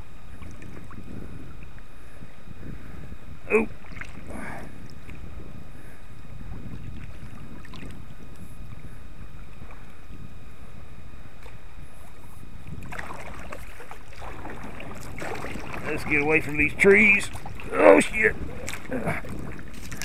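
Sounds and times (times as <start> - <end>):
low wind rumble on microphone: 0.0 - 20.0.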